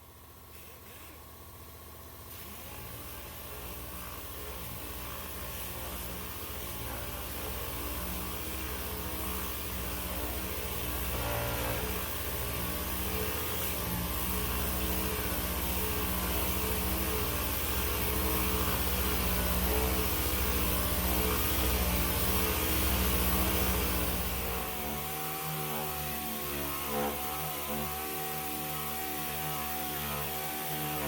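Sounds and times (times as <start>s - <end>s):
power sander running: 0.0s - 31.0s.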